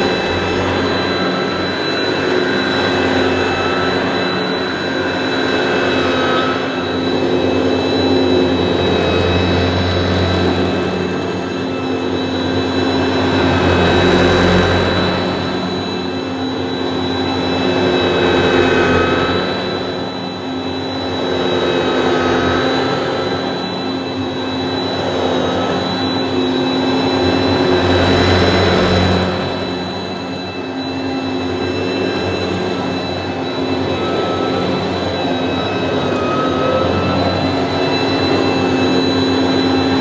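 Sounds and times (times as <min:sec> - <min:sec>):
vacuum cleaner whining: 0:00.0 - 0:40.0.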